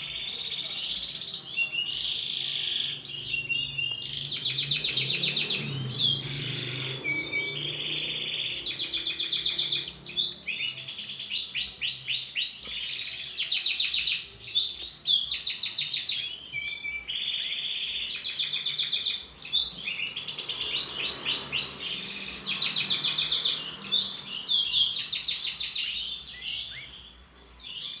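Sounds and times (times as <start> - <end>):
canary singing trills: 0.0 - 28.0.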